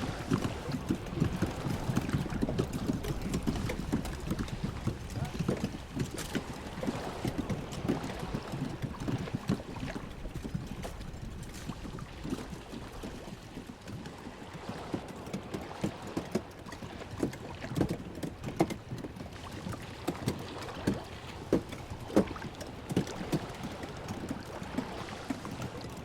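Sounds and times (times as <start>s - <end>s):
low wash of moving water: 0.0s - 26.0s
waves slapping against boat: 0.0s - 26.0s.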